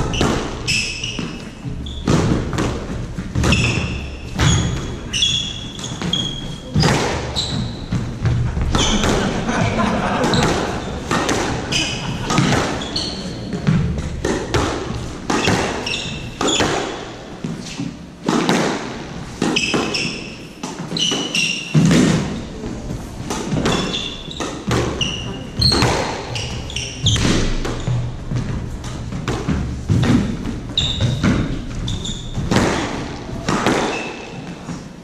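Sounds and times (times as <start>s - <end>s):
squash ball striking walls: 0.0s - 34.8s
shoes squeaking on wooden floor: 0.0s - 35.0s.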